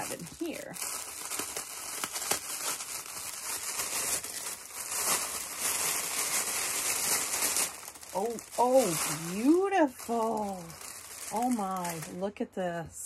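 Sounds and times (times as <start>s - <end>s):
gift wrapping crinkling: 0.0s - 12.3s.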